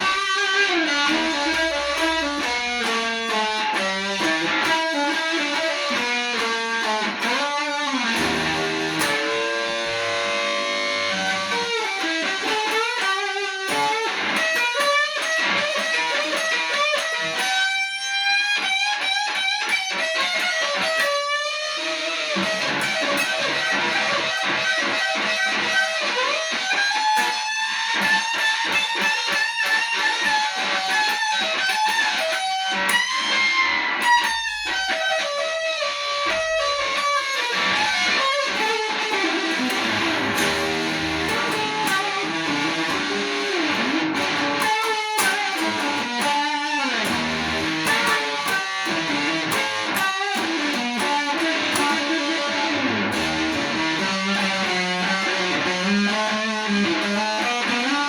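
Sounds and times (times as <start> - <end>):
electric guitar blues solo: 0.0 - 58.0.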